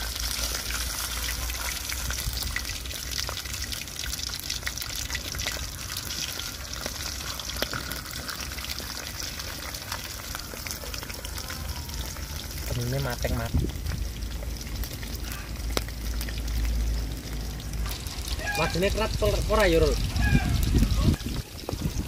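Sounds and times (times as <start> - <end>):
fish frying in oil: 0.0 - 22.0.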